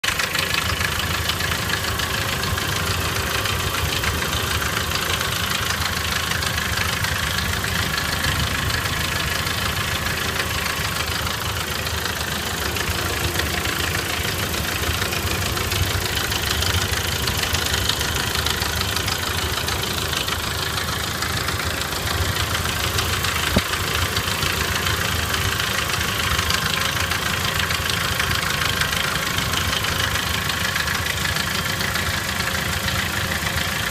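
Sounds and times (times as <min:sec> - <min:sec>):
petrol engine idling with knock: 0:00.0 - 0:33.9.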